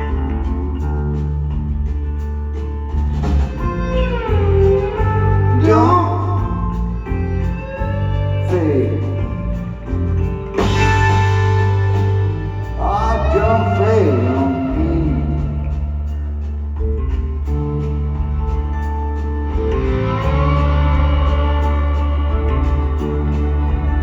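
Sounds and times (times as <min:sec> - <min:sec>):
lead guitar bending notes: 0:00.0 - 0:24.0
live slow rock band: 0:00.0 - 0:24.0.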